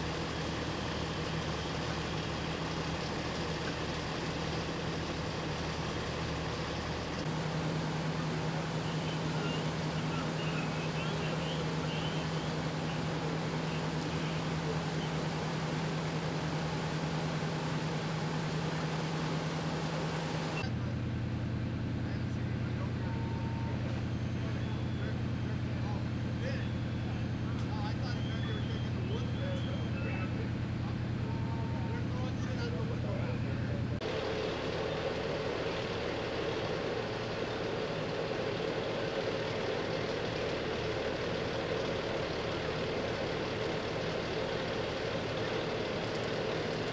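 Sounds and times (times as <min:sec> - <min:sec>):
constant hum: 0:00.0 - 0:46.9
fire engine pump droning: 0:00.0 - 0:46.9.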